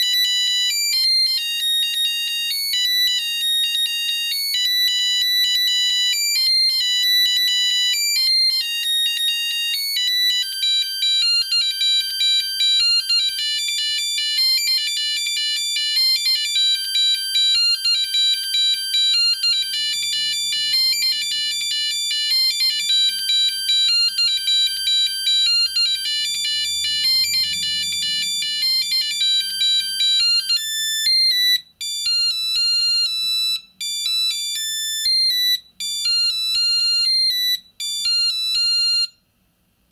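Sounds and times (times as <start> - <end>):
mobile phone ringtone beeping melody: 0.0 - 39.2.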